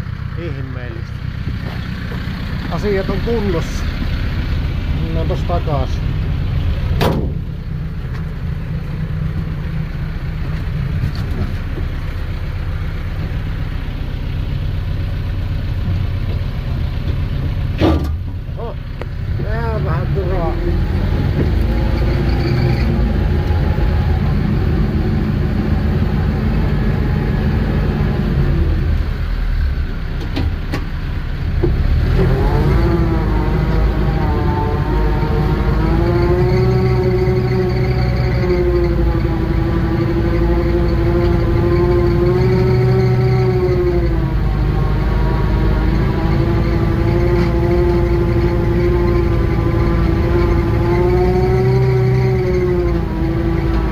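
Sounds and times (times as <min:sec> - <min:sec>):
small vehicle engine droning: 0:00.0 - 0:53.9.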